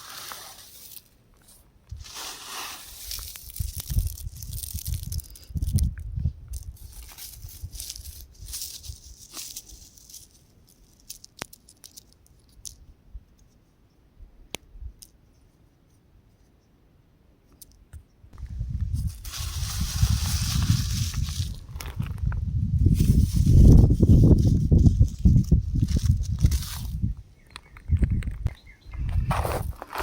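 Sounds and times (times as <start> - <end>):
rock crumbling and rattling: 0.1 - 12.8, 18.4 - 30.0.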